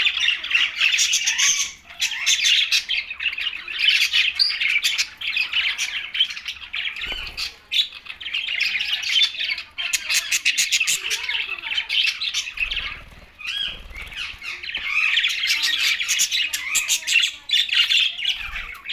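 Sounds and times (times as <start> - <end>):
budgerigars chattering and chirping: 0.0 - 18.9.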